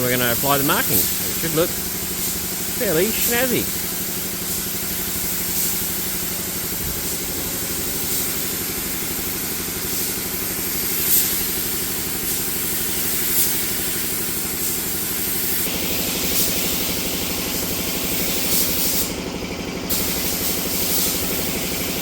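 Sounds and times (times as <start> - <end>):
compressor motor running: 0.0 - 22.0
paint spray gun hissing: 0.0 - 22.0.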